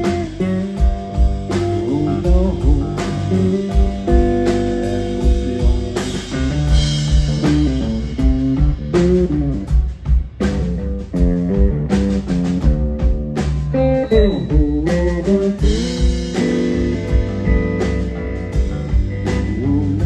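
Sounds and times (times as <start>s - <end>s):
bass guitar: 0.0s - 20.0s
drum kit cymbal and snare: 0.0s - 20.0s
electric guitar: 0.0s - 20.0s.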